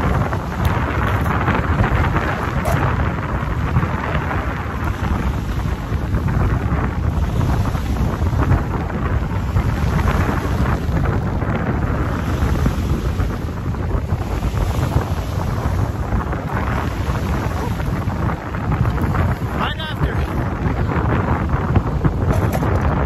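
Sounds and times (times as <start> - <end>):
waves splashing against rocks: 0.0 - 23.0
wind buffeting microphone: 0.0 - 23.0.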